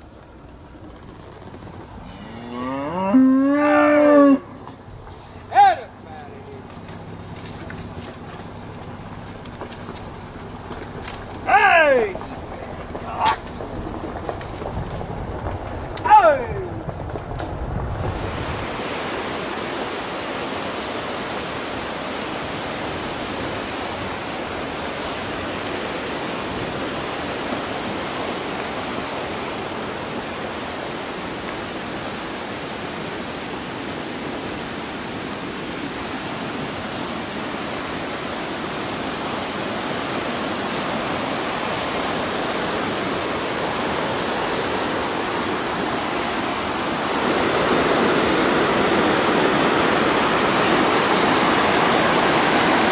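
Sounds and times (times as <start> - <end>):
rushing whitewater river: 3.8 - 16.9, 18.0 - 52.9.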